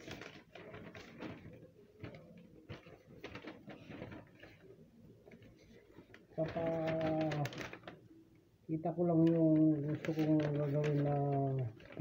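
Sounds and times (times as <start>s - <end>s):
paper rustling: 0.0s - 8.2s, 9.0s - 12.0s.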